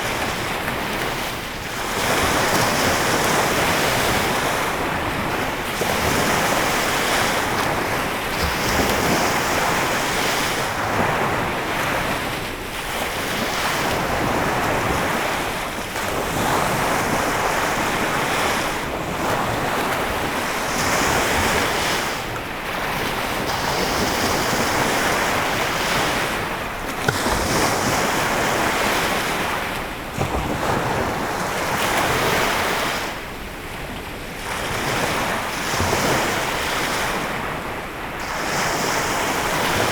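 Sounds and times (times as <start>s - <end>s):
waves washing onto shore: 0.0s - 39.9s.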